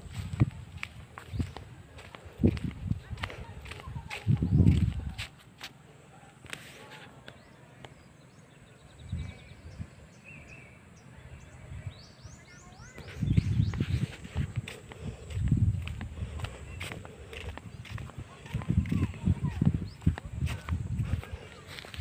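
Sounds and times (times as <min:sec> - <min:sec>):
birds chirping: 0:00.0 - 0:05.2, 0:06.1 - 0:22.0.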